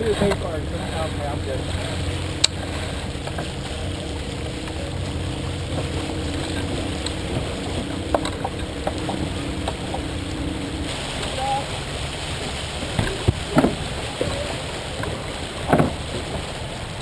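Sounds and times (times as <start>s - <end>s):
water rushing along hull: 0.0s - 17.0s.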